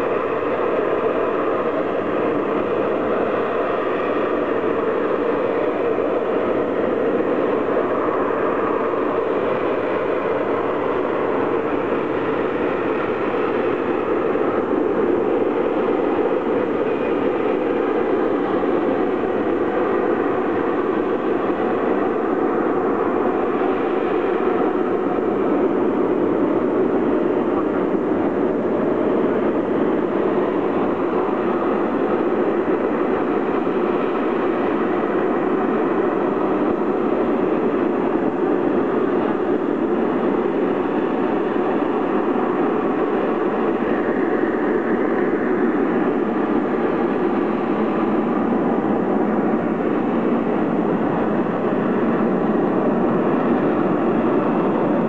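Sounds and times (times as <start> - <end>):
jet engine running loudly: 0.0 - 55.0.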